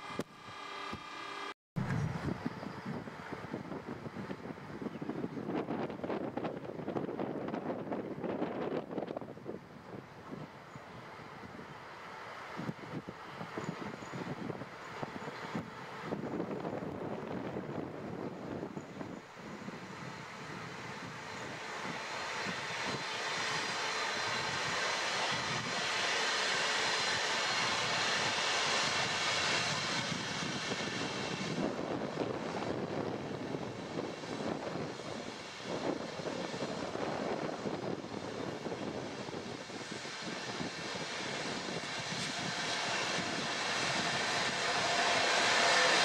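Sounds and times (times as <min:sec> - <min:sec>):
electric locomotive hum: 0:00.0 - 0:46.0
train coaches rolling: 0:02.4 - 0:46.0.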